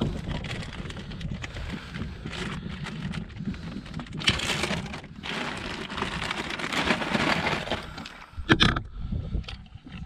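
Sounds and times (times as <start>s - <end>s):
gear crackling and rustling: 0.0s - 8.2s.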